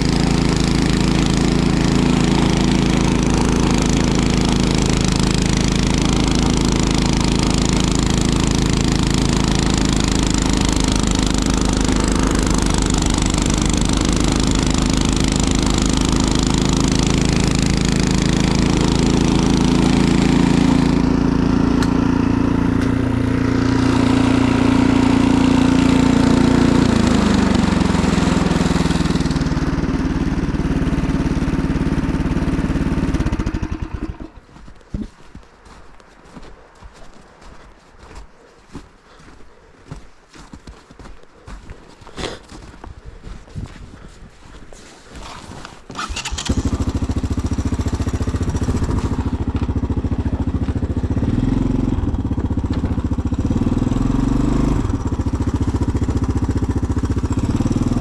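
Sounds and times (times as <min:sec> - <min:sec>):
single-cylinder engine running: 0:00.0 - 0:34.6, 0:45.9 - 0:58.0.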